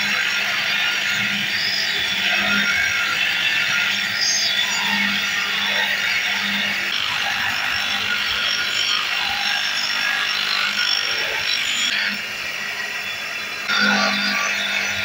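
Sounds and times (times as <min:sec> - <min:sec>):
power tool running: 0:00.0 - 0:15.0.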